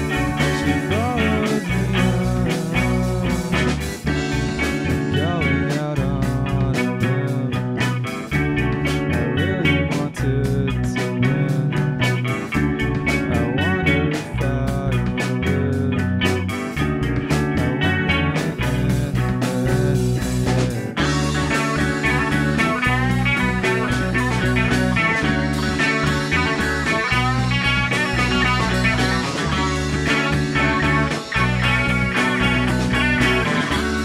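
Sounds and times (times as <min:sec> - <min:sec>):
drums: 0:00.0 - 0:34.0
electric guitars: 0:00.0 - 0:34.0
rock band playing live: 0:00.0 - 0:34.0.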